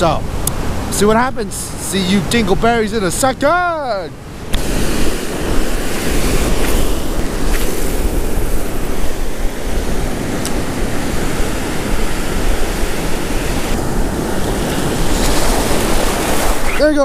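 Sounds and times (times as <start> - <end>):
ocean surf washing on beach: 0.0 - 17.0
wind buffeting microphone: 0.0 - 17.0.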